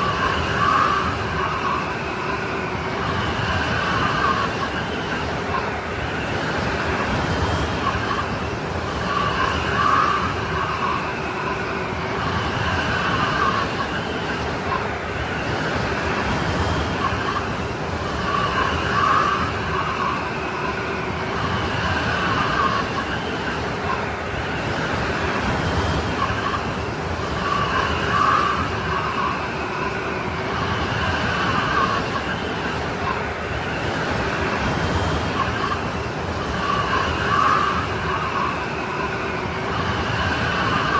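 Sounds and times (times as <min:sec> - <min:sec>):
snowstorm wind rushing: 0:00.0 - 0:40.9
wind whistling howl: 0:00.0 - 0:40.9.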